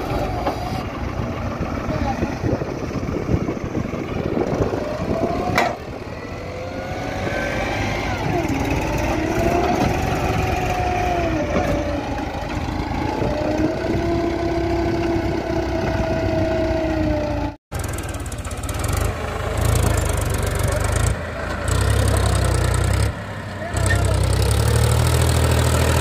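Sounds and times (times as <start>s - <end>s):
tractor engines under heavy load: 0.0s - 26.0s.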